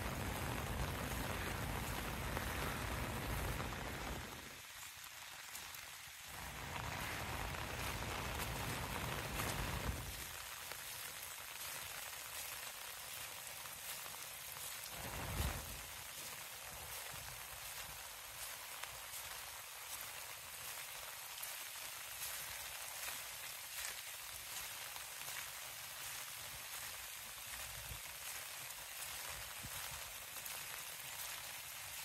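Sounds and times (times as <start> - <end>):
rain pattering: 0.0 - 32.0.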